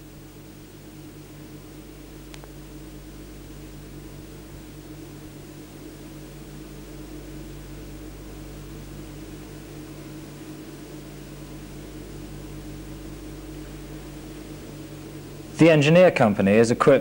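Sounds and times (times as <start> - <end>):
electrical hum: 0.0 - 17.0
tape hiss: 0.0 - 17.0.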